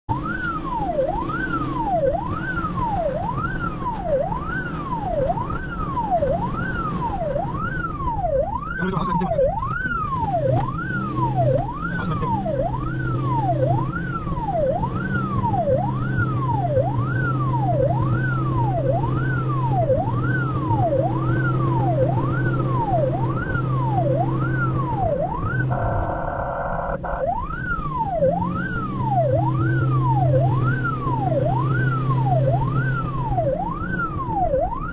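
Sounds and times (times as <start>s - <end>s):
ambulance siren sweeping: 0.1s - 34.9s
engine and road drone: 0.1s - 34.9s
steady blaring siren tone: 0.1s - 34.9s.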